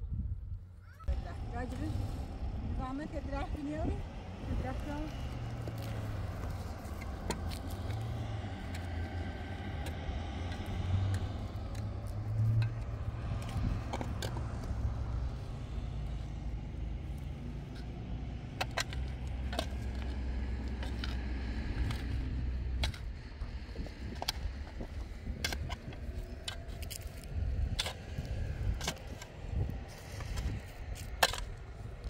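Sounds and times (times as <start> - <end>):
vehicle engine running: 1.1 - 32.0.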